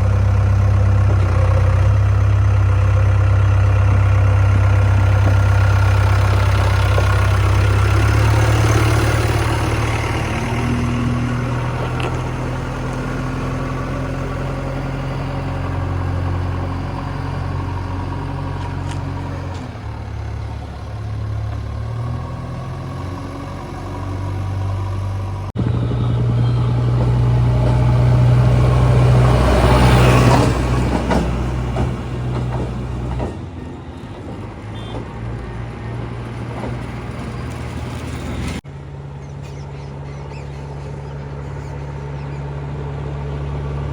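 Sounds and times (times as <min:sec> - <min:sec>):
heavy diesel engine under load: 0:00.0 - 0:43.9.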